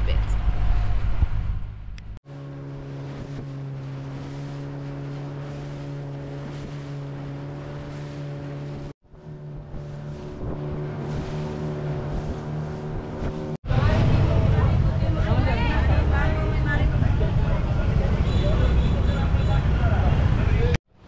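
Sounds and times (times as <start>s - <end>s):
engine humming: 0.0s - 20.8s.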